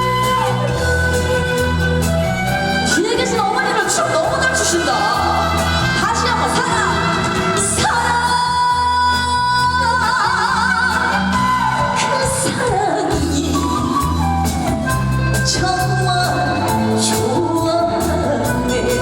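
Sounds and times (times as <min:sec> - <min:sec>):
band accompaniment with bass line: 0:00.0 - 0:19.0
woman singing: 0:00.0 - 0:19.0.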